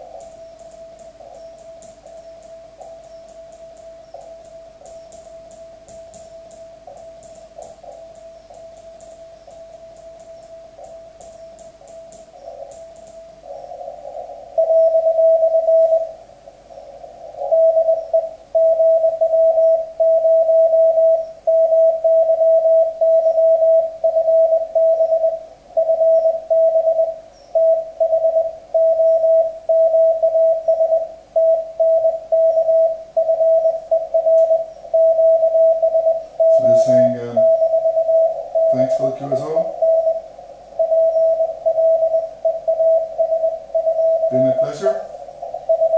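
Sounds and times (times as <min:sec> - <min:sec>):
morse code tone: 0:00.0 - 0:16.2, 0:17.2 - 0:45.9.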